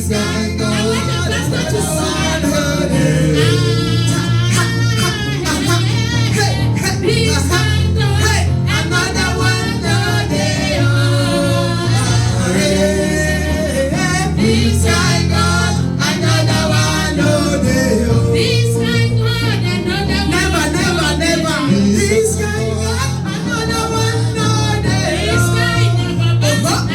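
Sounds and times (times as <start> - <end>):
amplified band with bass line: 0.0 - 26.9
choir singing: 0.0 - 26.9.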